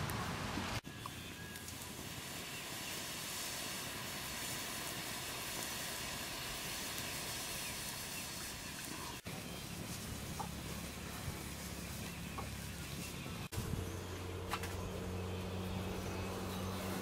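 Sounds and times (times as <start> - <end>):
wood fire hissing and crackling: 0.0 - 17.0.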